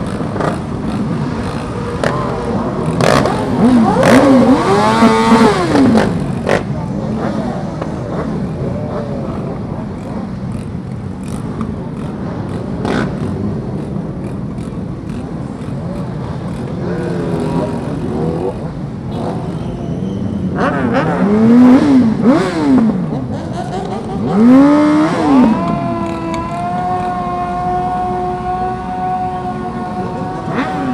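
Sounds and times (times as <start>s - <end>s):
loud motorcycle revs: 0.0s - 30.9s
motorcycle engines running: 0.0s - 30.9s.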